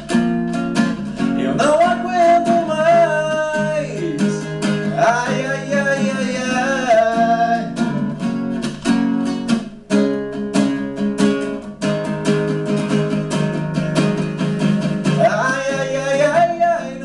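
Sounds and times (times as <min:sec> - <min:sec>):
classical guitar strummed fast: 0:00.0 - 0:17.0.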